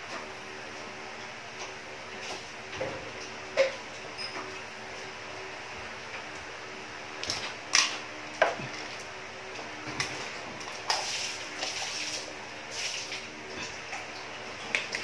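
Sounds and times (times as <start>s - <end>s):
water pump humming: 0.0s - 15.0s.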